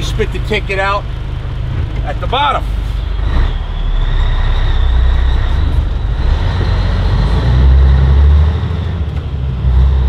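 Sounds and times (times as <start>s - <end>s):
high engine whine: 0.0s - 10.0s
truck diesel engine under load: 0.0s - 10.0s.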